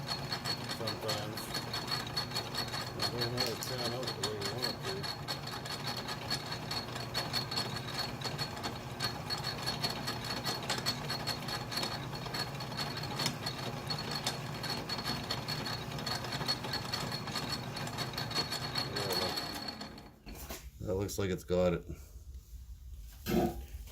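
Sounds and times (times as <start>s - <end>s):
metal lathe running: 0.0s - 20.2s.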